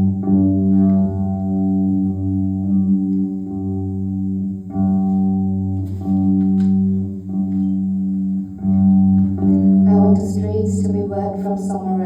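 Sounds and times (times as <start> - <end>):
sustained low instrumental notes: 0.0 - 12.0.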